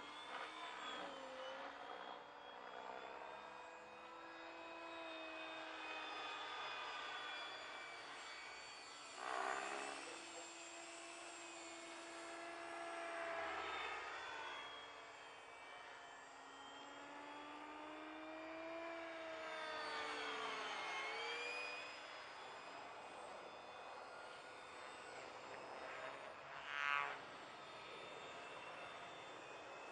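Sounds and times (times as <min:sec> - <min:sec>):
model jet fan whining: 0:00.0 - 0:29.9.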